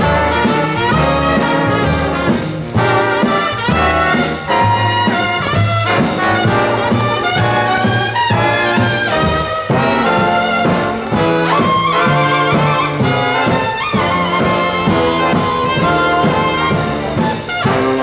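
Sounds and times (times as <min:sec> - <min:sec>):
big-band boogie-woogie record: 0:00.0 - 0:18.0
brass section: 0:00.0 - 0:18.0.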